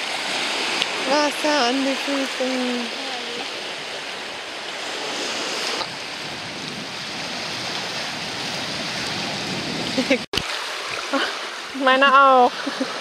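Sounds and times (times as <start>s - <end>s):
waves washing over sand: 0.0s - 13.0s.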